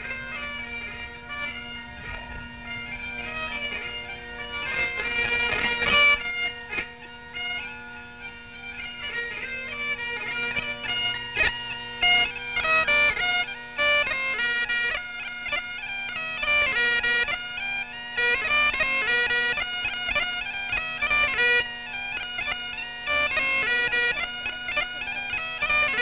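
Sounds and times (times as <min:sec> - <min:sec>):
bagpipes playing a tune: 0:00.0 - 0:26.0.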